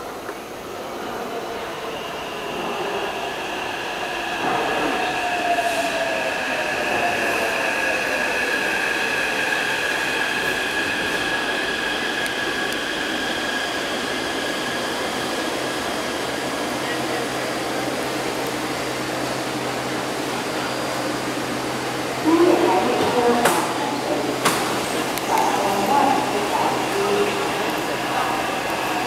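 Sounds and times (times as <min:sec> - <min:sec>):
train noise: 0:00.0 - 0:29.0.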